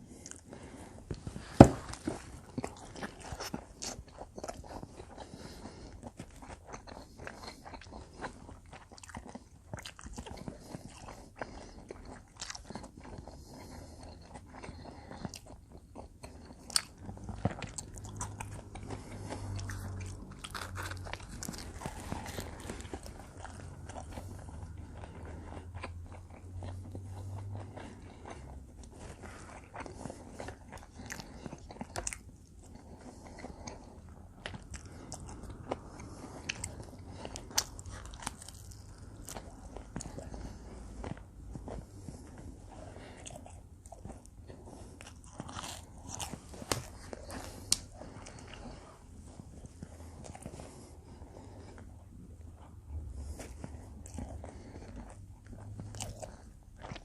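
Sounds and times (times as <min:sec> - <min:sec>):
chewing and biting pizza: 0:00.0 - 0:57.0
steady low hum: 0:00.0 - 0:57.0.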